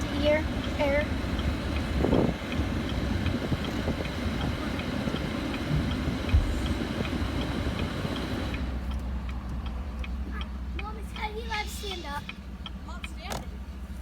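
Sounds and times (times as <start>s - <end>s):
low truck rumble: 0.0s - 14.0s
turn signal clicking: 0.0s - 14.0s.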